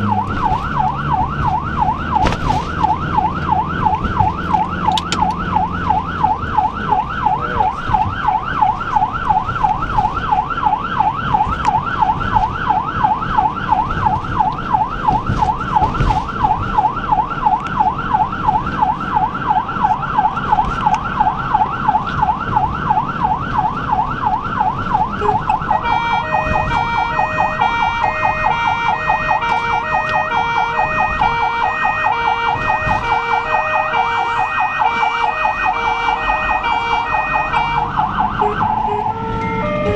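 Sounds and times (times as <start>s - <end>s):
ambulance siren wailing: 0.0s - 39.9s
road and engine noise: 0.0s - 39.9s.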